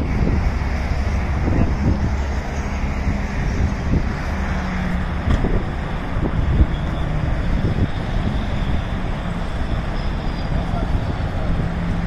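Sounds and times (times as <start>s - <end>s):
road traffic: 0.0s - 12.0s
wind buffeting microphone: 0.0s - 12.0s.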